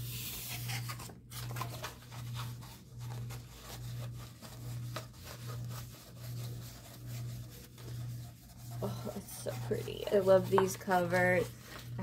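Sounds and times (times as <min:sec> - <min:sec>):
low pulsing hum: 0:00.0 - 0:12.0
paper rustling: 0:00.3 - 0:12.0.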